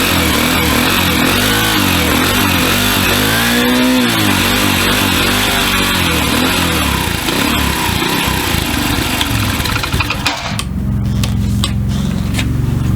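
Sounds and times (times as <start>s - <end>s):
small motorcycle engine revving and idling: 0.0s - 12.9s.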